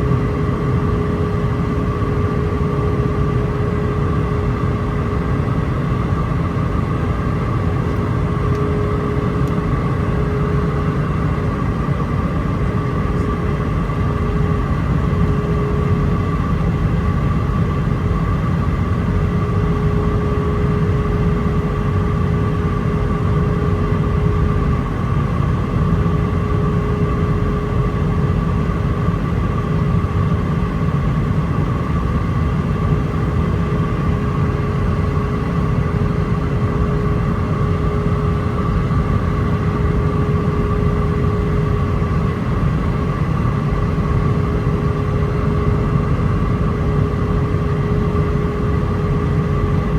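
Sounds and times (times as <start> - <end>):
deep airflow rumble: 0.0 - 49.9
jet engine whine: 0.0 - 49.9.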